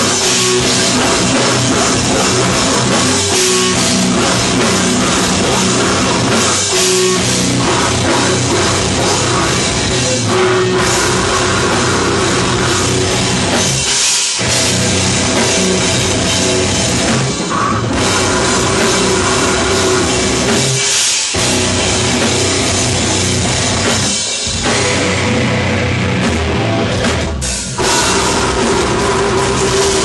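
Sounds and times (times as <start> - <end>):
distorted guitars and bass: 0.0 - 30.0
drum kit: 0.0 - 30.0.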